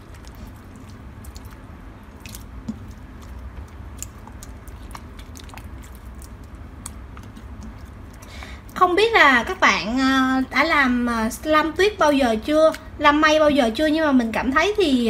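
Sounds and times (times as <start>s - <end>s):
slime squelching: 0.0s - 13.6s.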